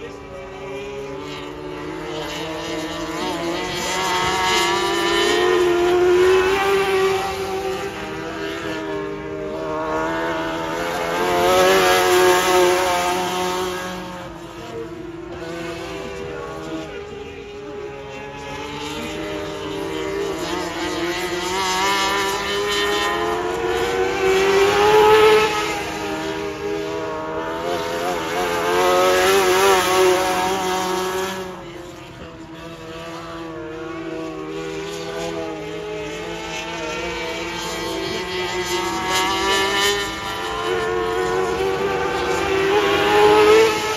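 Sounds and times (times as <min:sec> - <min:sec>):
race car engines passing: 0:00.0 - 0:43.9.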